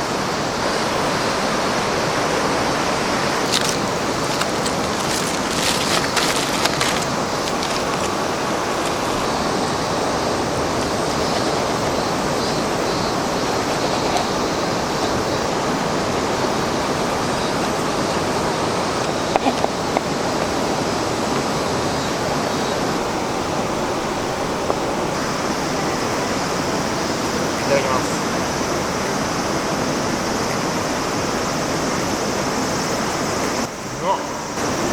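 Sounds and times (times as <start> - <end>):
river water flowing: 0.0 - 34.9.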